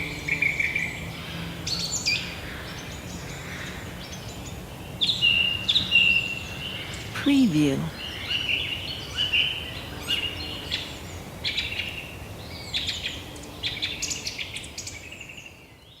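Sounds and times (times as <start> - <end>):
low background noise: 0.0 - 15.7.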